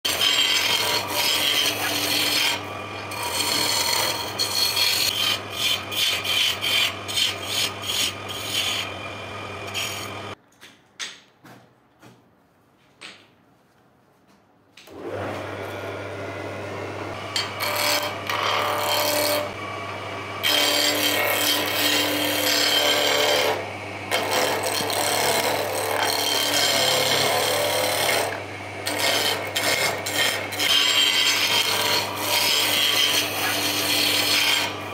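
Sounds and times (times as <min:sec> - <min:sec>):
gouge scraping spinning wood: 0:00.1 - 0:10.4, 0:15.0 - 0:19.8, 0:20.4 - 0:34.9
wood lathe humming: 0:00.1 - 0:10.4, 0:14.9 - 0:34.9.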